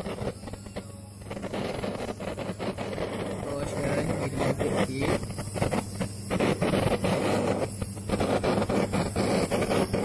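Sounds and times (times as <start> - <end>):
gas torch flame rushing: 0.0 - 10.0
low steady hum: 0.0 - 10.0.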